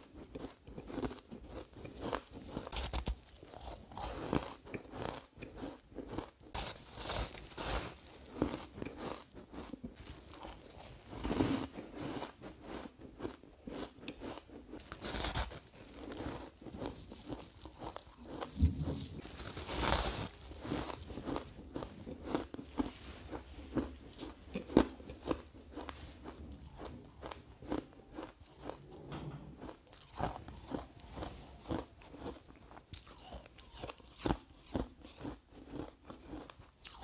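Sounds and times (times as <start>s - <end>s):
person chewing crunchy ice: 0.0s - 37.0s.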